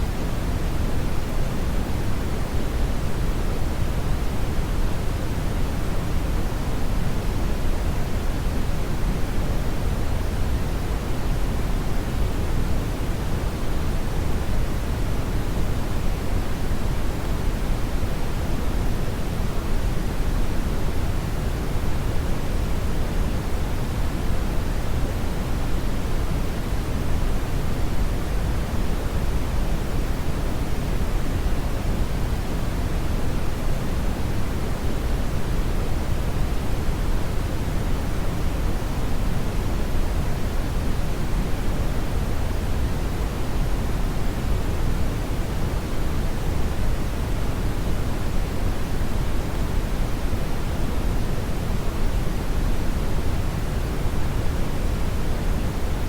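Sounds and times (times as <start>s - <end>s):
brown noise rushing hiss: 0.0s - 56.0s.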